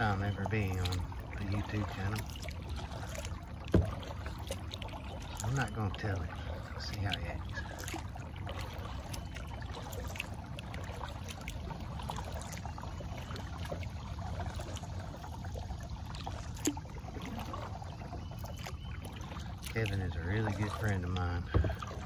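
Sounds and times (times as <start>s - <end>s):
water swishing off paddle: 0.0s - 22.0s.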